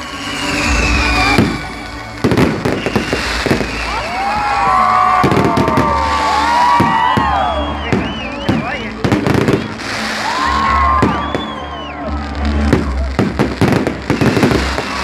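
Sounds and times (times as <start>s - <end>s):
whistling fireworks: 0.0s - 15.0s
fireworks bangs: 0.3s - 11.6s, 12.5s - 15.0s.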